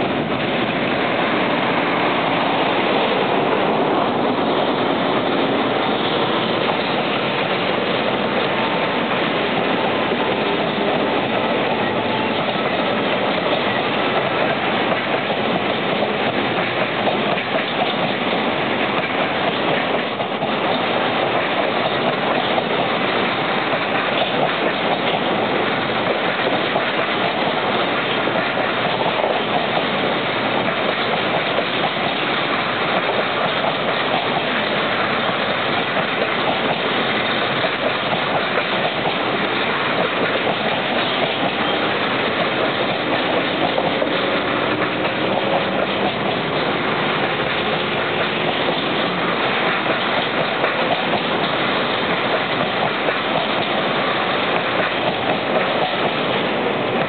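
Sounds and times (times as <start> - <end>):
train wheels rattling on rails: 0.0 - 57.0.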